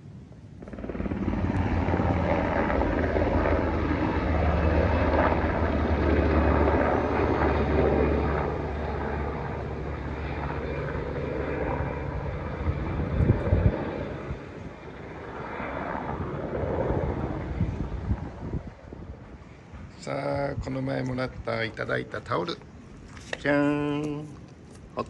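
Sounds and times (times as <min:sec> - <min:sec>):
helicopter rotor and engine drone: 0:00.0 - 0:25.0.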